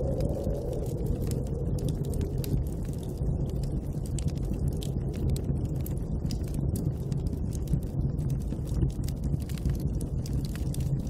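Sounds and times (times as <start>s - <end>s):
snowstorm wind rumbling: 0.0s - 11.0s
wood fire crackling: 0.0s - 11.0s.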